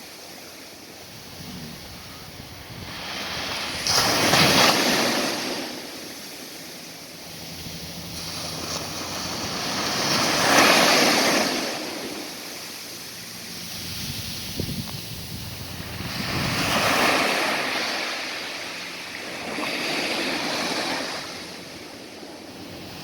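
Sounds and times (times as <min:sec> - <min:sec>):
surf breaking on beach: 0:00.0 - 0:23.0.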